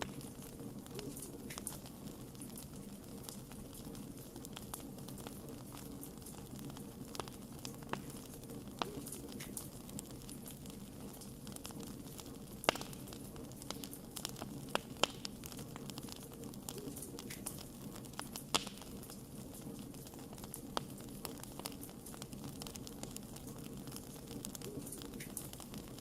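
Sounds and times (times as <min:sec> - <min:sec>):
fire rustling: 0:00.0 - 0:26.0
wood crackling and popping: 0:00.0 - 0:26.0.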